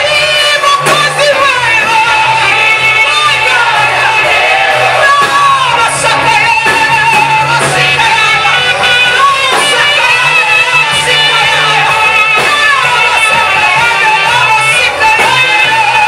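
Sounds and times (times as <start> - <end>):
band accompaniment with bass: 0.0 - 16.0
gospel singing with vibrato: 0.0 - 16.0.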